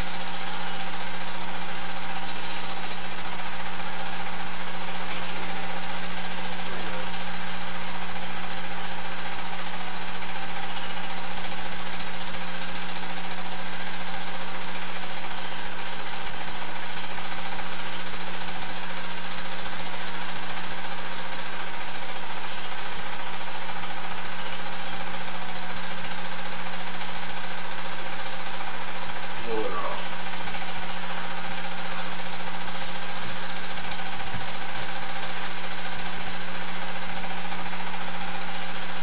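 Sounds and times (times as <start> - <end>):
projector motor hum: 0.0 - 39.0.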